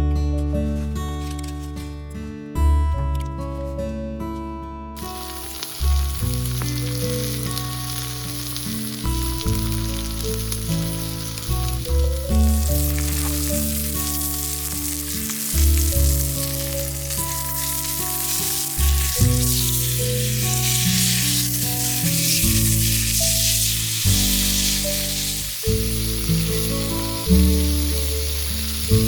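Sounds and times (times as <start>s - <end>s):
background music: 5.0s - 29.0s
meat sizzling over a campfire: 5.0s - 29.0s.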